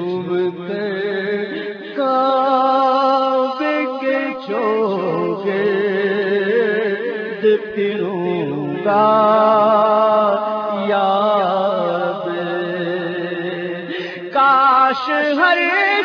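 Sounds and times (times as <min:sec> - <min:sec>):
person singing a hymn: 0:00.0 - 0:16.0.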